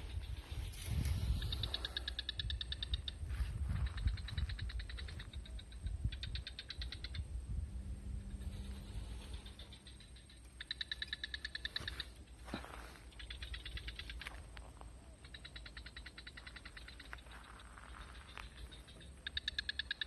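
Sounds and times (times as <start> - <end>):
frog trilling: 1.0 - 20.0.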